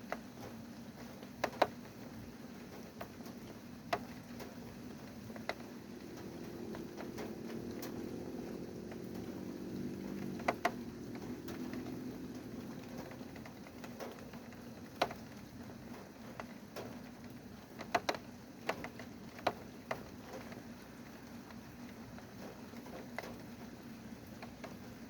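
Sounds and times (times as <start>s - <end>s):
faint steady hiss: 0.0s - 25.0s
raindrops tapping on hard surface: 0.0s - 25.0s.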